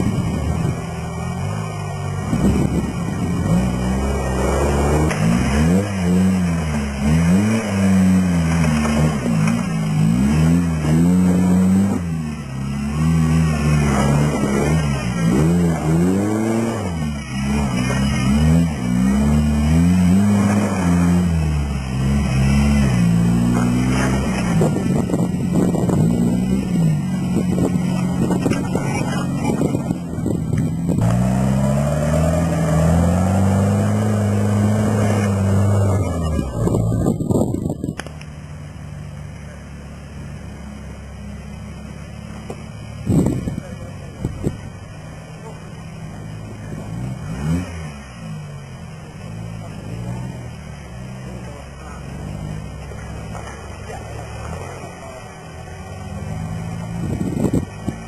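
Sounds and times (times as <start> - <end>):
engine revving: 0.0 - 38.2, 39.4 - 58.0.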